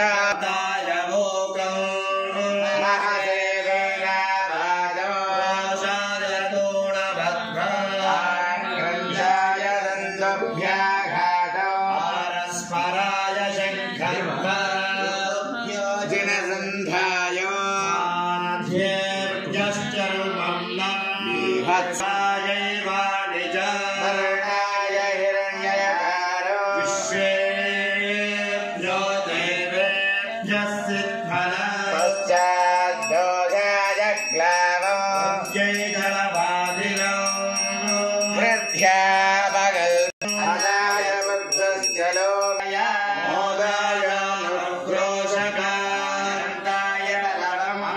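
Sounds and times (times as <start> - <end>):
men chanting mantras: 0.0 - 47.9.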